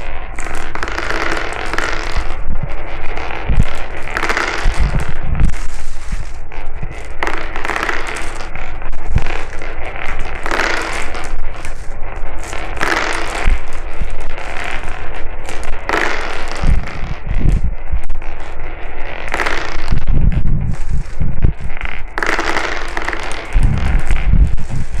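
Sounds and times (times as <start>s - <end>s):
marbles rattling down a track: 0.0s - 17.6s, 18.2s - 20.1s, 20.7s - 25.0s.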